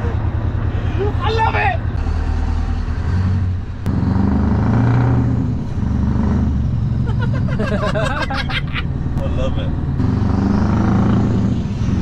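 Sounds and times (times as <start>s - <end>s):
truck diesel engine hum: 0.0s - 12.0s.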